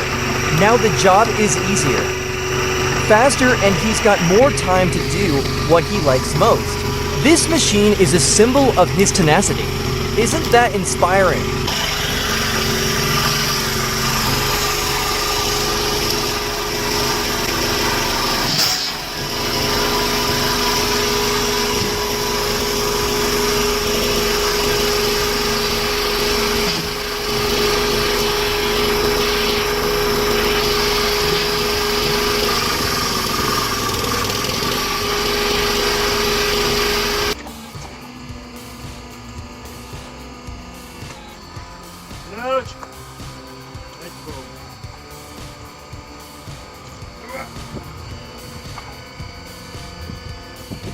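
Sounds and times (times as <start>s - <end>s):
small engine running with whine: 0.0s - 50.9s.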